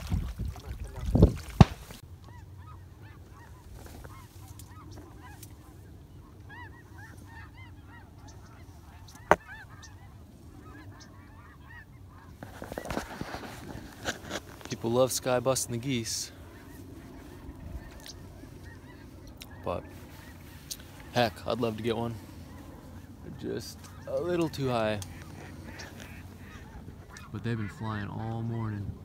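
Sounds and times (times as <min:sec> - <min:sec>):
geese honking: 0:01.9 - 0:29.0.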